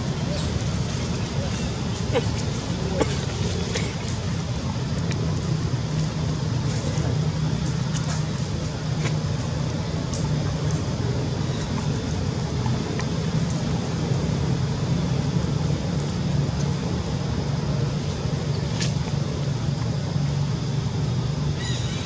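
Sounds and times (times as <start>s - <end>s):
steady low motor rumble: 0.0s - 22.0s.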